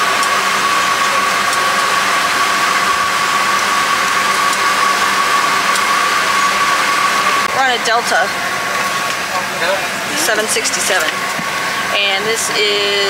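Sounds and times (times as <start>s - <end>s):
airliner cabin engine and air rush: 0.0s - 13.0s
high-pitched hum: 0.0s - 13.0s.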